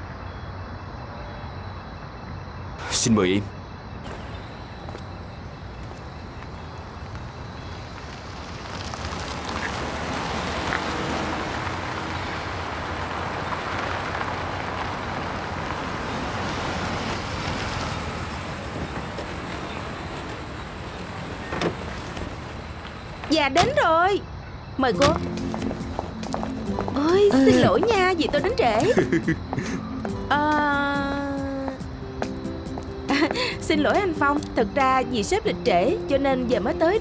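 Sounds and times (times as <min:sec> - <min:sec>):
car engine and tyre noise: 0:00.0 - 0:30.3.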